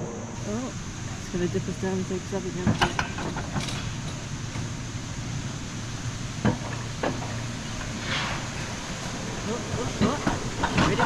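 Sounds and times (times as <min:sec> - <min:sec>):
coaster cart rumbling on track: 0:00.0 - 0:11.0.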